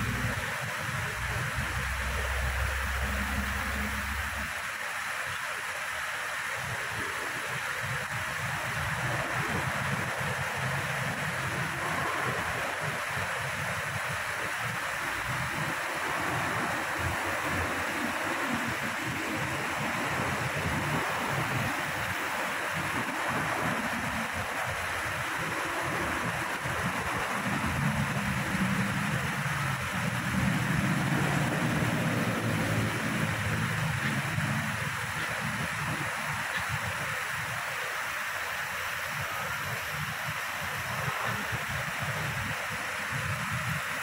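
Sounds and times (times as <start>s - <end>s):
water rushing over a weir: 0.0s - 44.0s.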